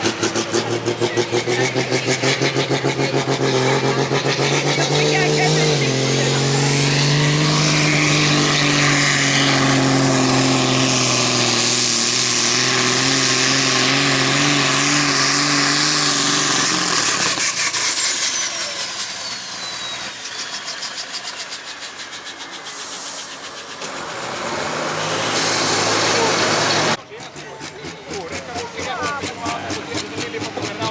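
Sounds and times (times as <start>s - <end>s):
tractor engine at high revs: 0.0s - 30.9s.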